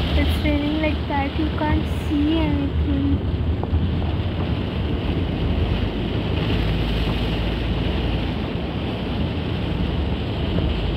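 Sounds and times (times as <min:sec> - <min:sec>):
rain on vehicle windows: 0:00.0 - 0:10.9
vehicle and road rumble: 0:00.0 - 0:10.9.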